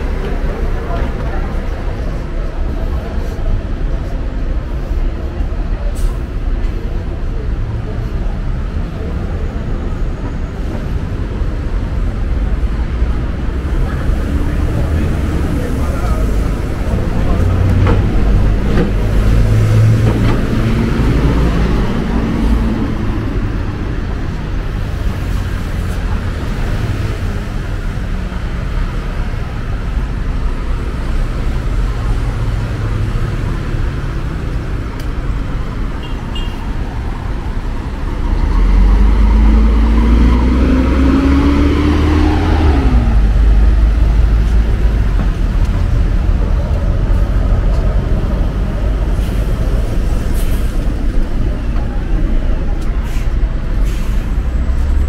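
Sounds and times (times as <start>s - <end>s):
bus engine whine: 0.0s - 55.0s
traffic rumble: 0.0s - 55.0s.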